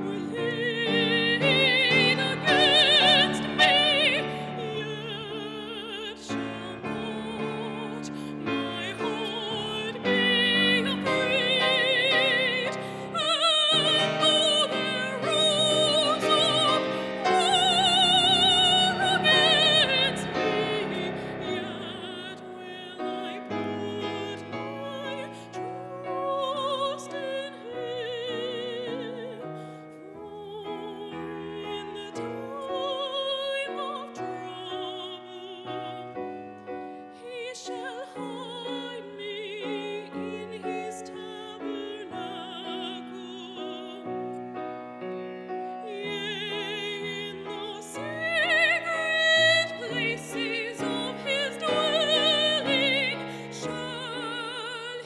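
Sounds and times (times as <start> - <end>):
woman singing with vibrato: 0.0 - 36.3, 37.0 - 44.3, 45.8 - 55.0
grand piano: 0.0 - 55.0.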